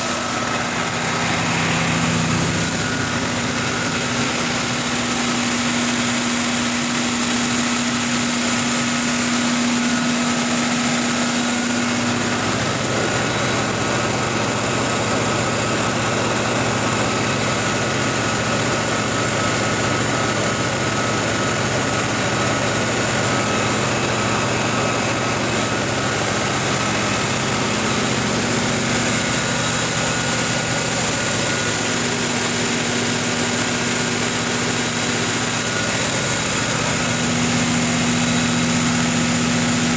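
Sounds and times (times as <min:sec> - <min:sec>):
high-pitched whine: 0:00.0 - 0:16.4, 0:22.5 - 0:39.9
diesel engine droning: 0:00.0 - 0:39.9.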